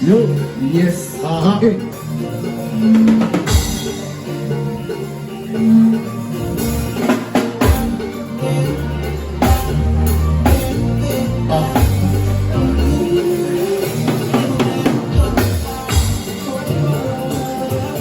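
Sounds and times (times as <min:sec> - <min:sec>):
bass and guitar notes: 0:00.0 - 0:18.0.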